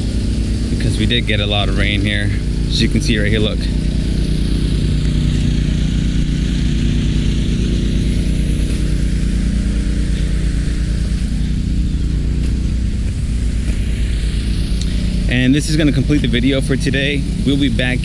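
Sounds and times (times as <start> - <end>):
even hiss: 0.0 - 18.0
large diesel engine running: 0.0 - 18.0.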